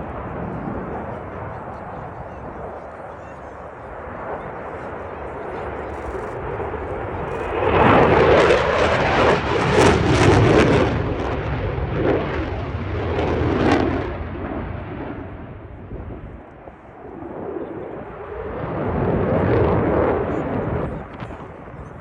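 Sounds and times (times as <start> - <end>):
jet fighter roaring past: 0.0 - 22.0.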